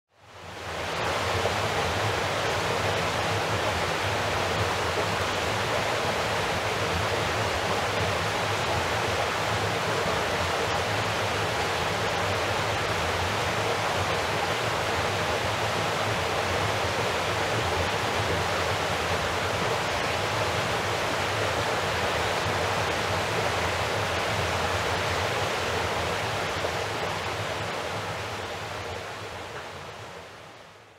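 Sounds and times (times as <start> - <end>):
river water rushing over rocks: 0.2 - 30.9.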